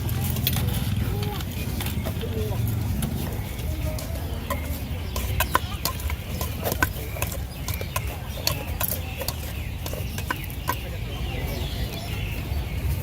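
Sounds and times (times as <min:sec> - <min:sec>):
clatter of utensils: 0:00.0 - 0:11.1
distant chatter: 0:00.0 - 0:13.0.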